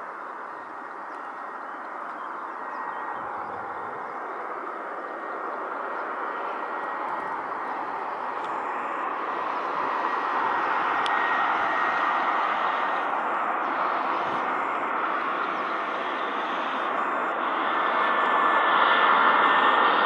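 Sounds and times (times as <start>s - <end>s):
jet airplane noise: 0.0s - 20.0s.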